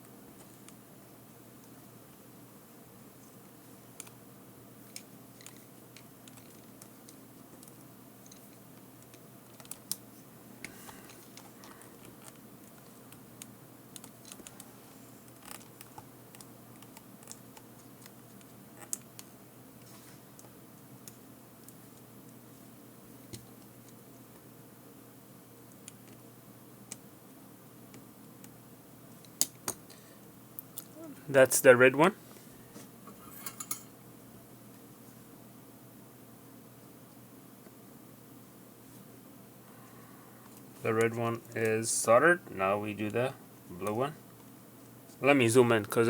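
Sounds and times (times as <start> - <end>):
faint background hum: 0.0 - 46.0.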